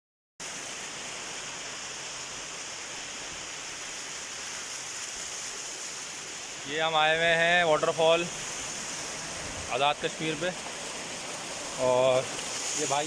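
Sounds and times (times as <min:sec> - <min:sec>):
waterfall rushing: 0:00.4 - 0:13.0.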